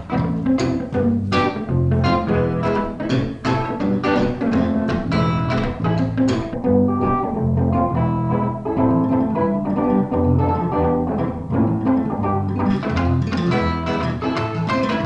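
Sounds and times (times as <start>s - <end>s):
electric bass line: 0.0s - 15.0s
electric guitar notes: 0.0s - 15.0s.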